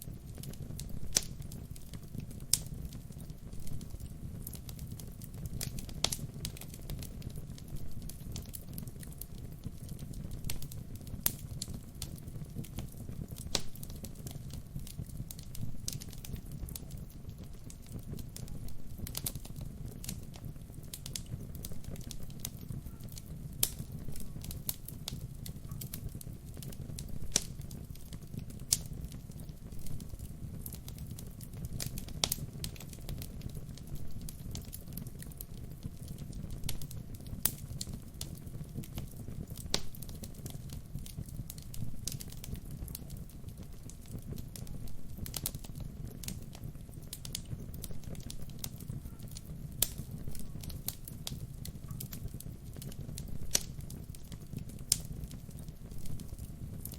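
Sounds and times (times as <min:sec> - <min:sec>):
fire crackles and pops: 0:00.0 - 0:56.9
wood fire rumbling: 0:00.0 - 0:56.9.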